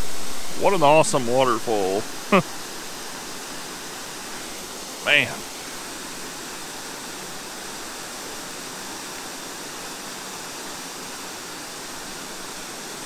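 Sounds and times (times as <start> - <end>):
waterfall pouring: 0.0 - 11.8.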